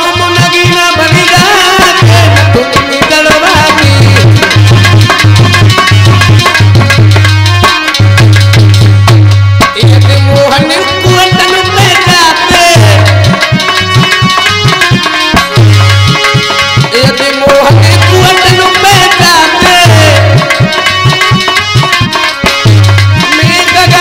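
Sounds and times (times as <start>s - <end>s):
man singing: 0.0s - 7.0s, 9.6s - 24.0s
hand-drum rhythm: 0.0s - 24.0s
harmonium: 0.0s - 24.0s.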